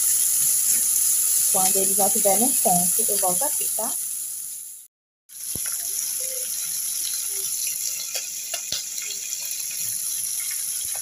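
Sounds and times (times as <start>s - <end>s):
bacon sizzling with pops: 0.0s - 11.0s.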